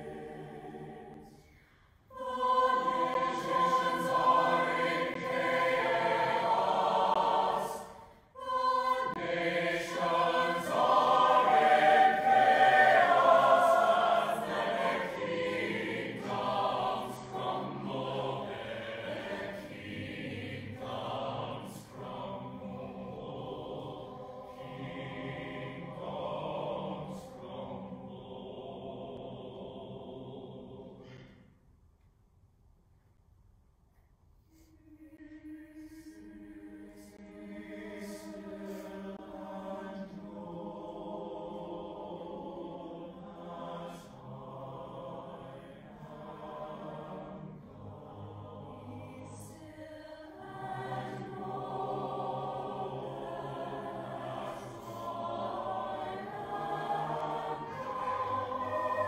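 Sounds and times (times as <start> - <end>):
choir singing: 0.0 - 31.5, 34.8 - 59.0.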